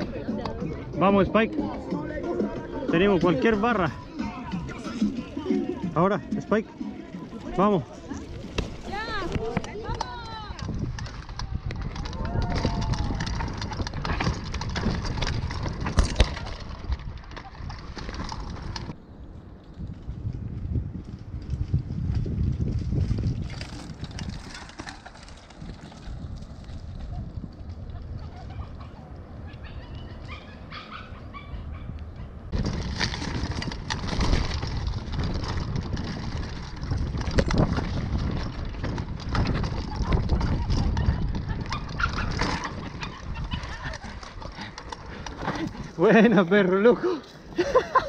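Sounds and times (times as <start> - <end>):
bike tyres rumbling over dirt: 0.0 - 30.3, 32.4 - 48.0
bike rattling: 0.0 - 48.0
wind buffeting microphone: 0.0 - 48.0.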